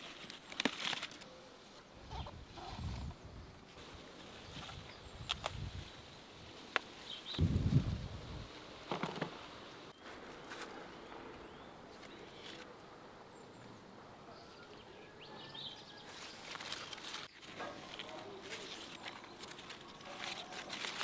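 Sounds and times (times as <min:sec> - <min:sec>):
leaves and branches rustling: 0:00.0 - 0:13.8, 0:15.6 - 0:21.0.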